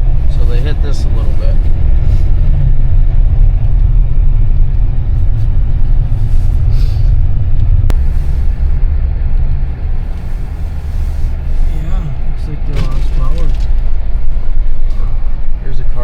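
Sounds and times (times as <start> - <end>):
vehicle rumble on snowy road: 0.0 - 16.0.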